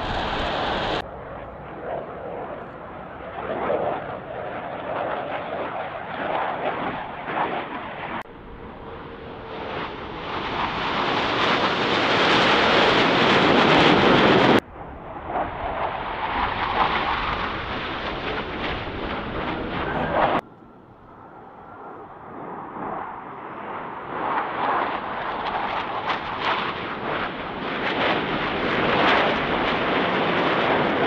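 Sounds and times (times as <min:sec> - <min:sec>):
jet roar overhead: 0:00.0 - 0:31.0.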